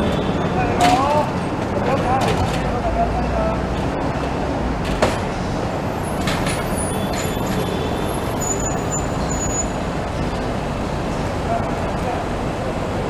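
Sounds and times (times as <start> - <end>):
traffic rumble: 0.0 - 13.0
tram rolling on track: 0.0 - 13.0.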